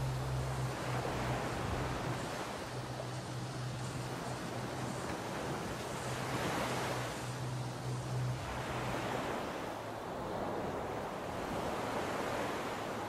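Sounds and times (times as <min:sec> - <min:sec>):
low steady hum: 0:00.0 - 0:11.6
water rushing along a hull: 0:00.0 - 0:13.0.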